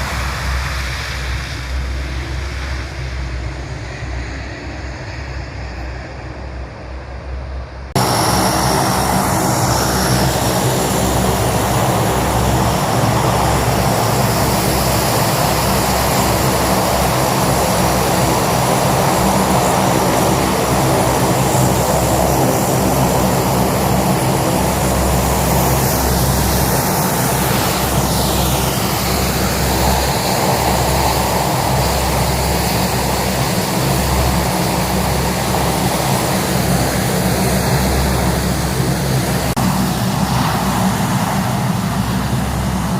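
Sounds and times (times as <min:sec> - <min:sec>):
airplane engines droning: 0:00.0 - 0:42.9.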